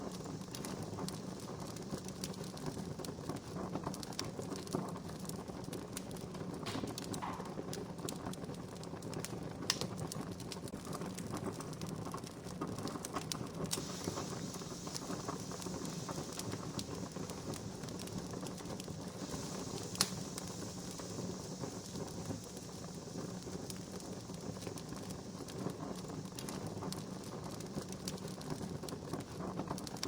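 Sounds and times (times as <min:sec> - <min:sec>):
low rush of flame: 0:00.0 - 0:30.0
wood fire sharp pops: 0:00.0 - 0:30.0.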